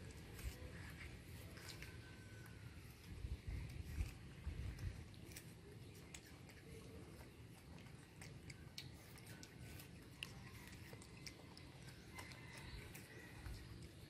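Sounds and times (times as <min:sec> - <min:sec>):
monkeys chewing fruit: 0:00.0 - 0:14.0.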